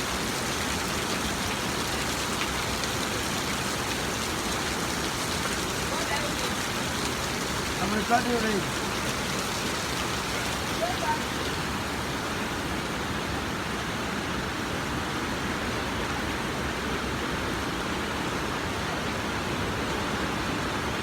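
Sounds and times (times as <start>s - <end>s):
rain falling steadily: 0.0s - 21.0s.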